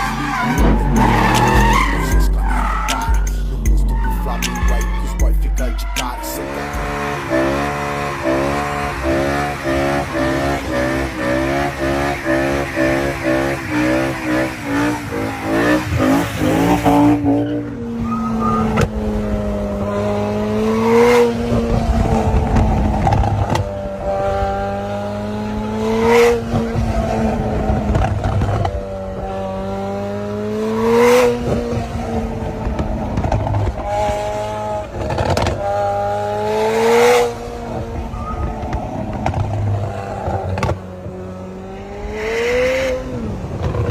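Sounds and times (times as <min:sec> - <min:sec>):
sports car engine revving: 0:00.0 - 0:43.9.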